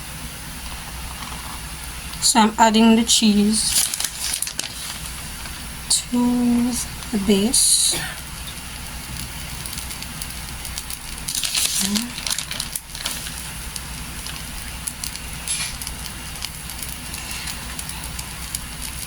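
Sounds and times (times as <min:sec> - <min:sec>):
food sizzling in a hot pot: 0:03.4 - 0:19.0.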